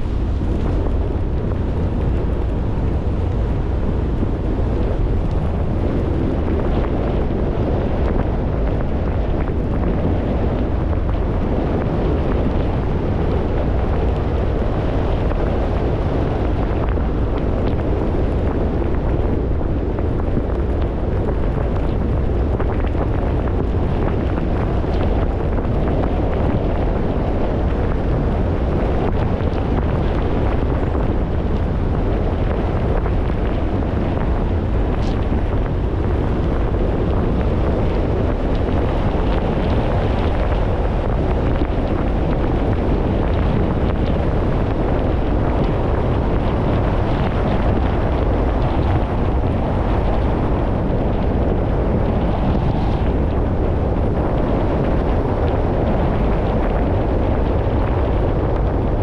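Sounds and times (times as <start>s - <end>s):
car rumble and wind noise: 0.0s - 59.0s.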